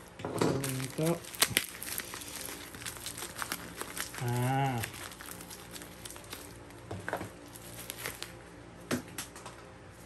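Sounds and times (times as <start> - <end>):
plastic wrapping crinkling: 0.1 - 8.6.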